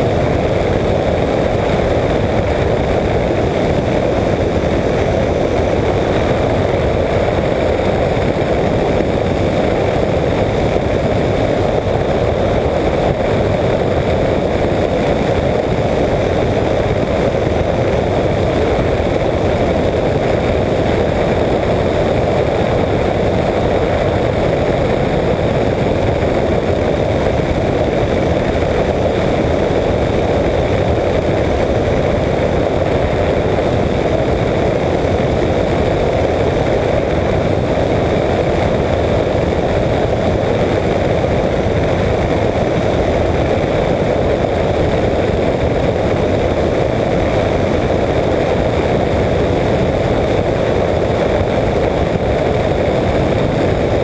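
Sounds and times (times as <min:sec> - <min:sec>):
propeller engine running: 0:00.0 - 0:54.0
wind rush on microphone: 0:00.0 - 0:54.0.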